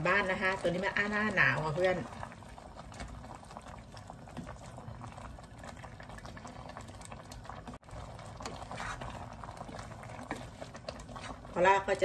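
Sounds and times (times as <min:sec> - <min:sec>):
curry bubbling and popping: 0:00.0 - 0:12.0
wooden spatula stirring: 0:00.0 - 0:12.0.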